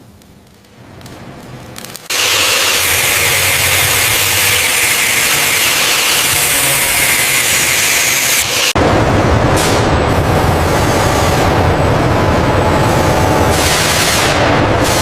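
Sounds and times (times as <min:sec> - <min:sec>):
machine hissing over low rumble: 0:00.0 - 0:15.0.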